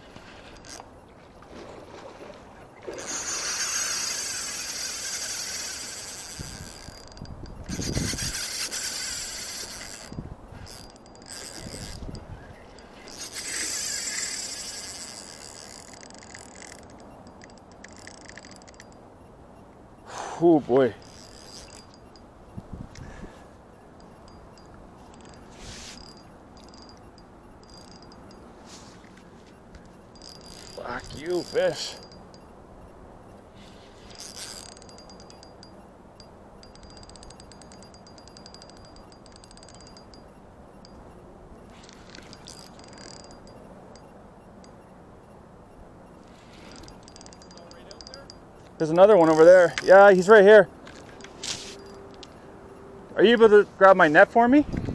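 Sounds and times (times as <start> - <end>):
fishing reel drag clicking: 0.2 - 1.0, 2.8 - 19.0, 20.0 - 23.2, 24.0 - 32.5, 33.3 - 41.0, 41.6 - 44.8, 46.2 - 52.5.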